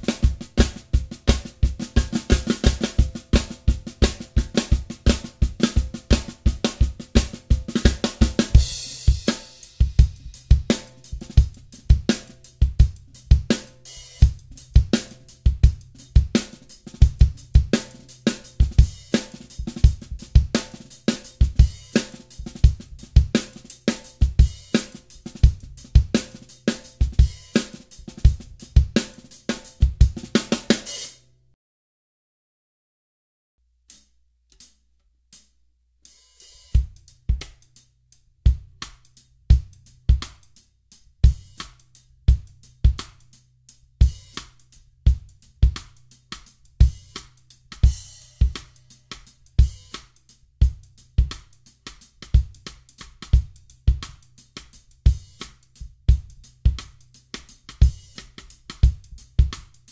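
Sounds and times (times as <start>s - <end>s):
bass drum: 0.0s - 30.9s, 36.7s - 37.8s, 38.4s - 59.9s
drum kit playing a groove: 0.0s - 31.2s, 35.4s - 37.8s, 38.4s - 59.9s
snare drum: 0.0s - 31.2s, 38.5s - 40.6s, 41.2s - 43.3s, 44.1s - 59.9s
hi-hat: 5.3s - 31.2s, 35.4s - 59.9s.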